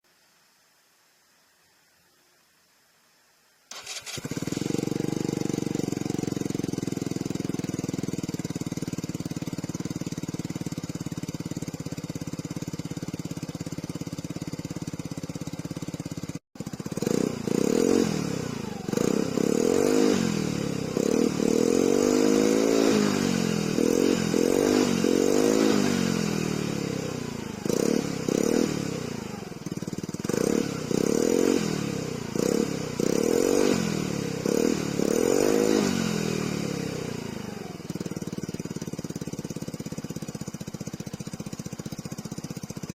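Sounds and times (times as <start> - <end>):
scooter engine idling: 3.7 - 42.9
scooter engine revving: 3.7 - 42.9.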